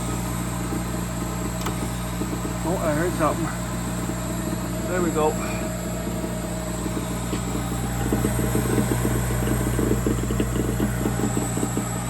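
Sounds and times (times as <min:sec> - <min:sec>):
fluttering rumble: 0:00.0 - 0:12.0
furnace humming: 0:00.0 - 0:12.0.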